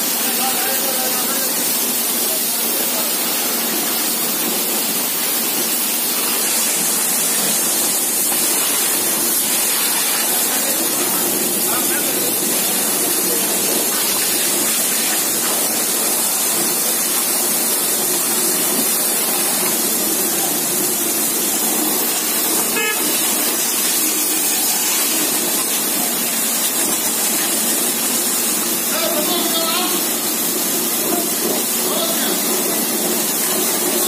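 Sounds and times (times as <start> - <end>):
water jets spraying metal: 0.0 - 34.0.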